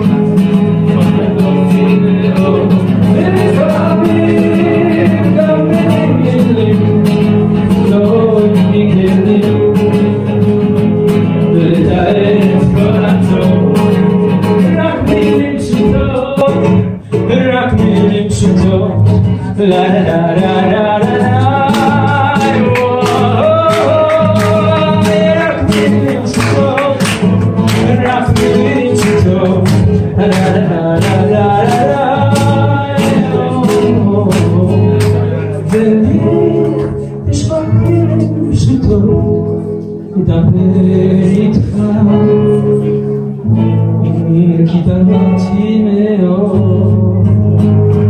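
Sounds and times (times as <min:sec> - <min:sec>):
man singing into a microphone: 0:00.0 - 0:48.0
strummed acoustic guitar: 0:00.0 - 0:48.0.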